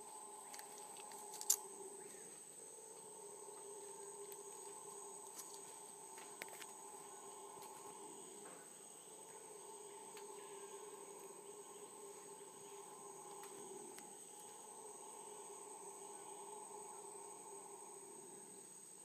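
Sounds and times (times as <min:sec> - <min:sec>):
insects shrilling: 0:00.0 - 0:19.0
low steady drone: 0:00.0 - 0:19.0.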